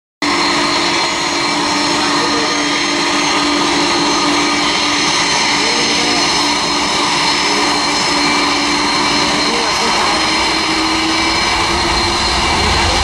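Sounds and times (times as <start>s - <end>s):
jet engines roaring on takeoff: 0.2s - 13.0s.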